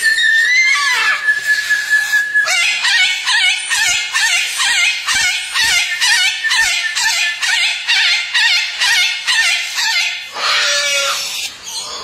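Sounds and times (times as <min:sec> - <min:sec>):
cockatoo screeching: 0:00.0 - 0:01.4, 0:02.1 - 0:12.0.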